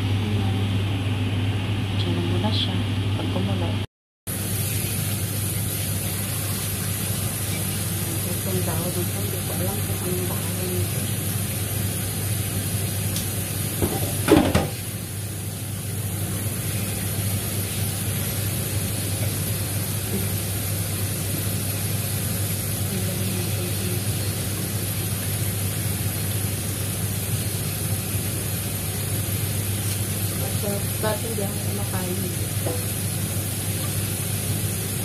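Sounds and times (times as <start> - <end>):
tap water running into sink: 4.4 - 35.0.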